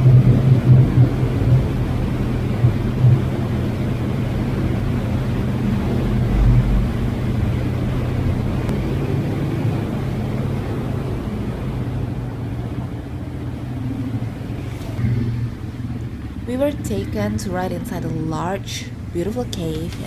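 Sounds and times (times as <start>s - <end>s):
atv engine rumble: 0.0s - 20.0s.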